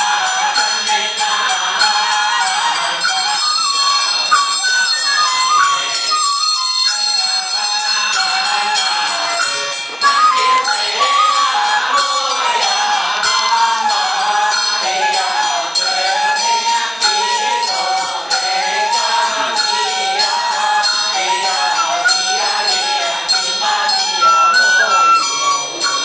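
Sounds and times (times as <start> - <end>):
ritual chanting: 0.0 - 26.0
small bells or cymbals beat: 0.0 - 26.0.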